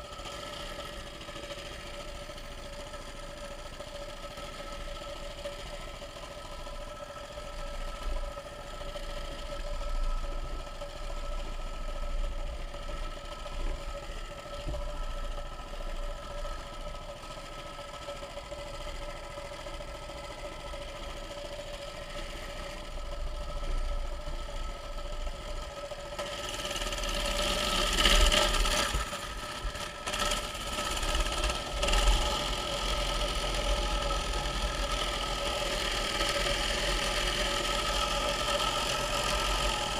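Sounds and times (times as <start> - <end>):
small engine humming: 0.0 - 39.9.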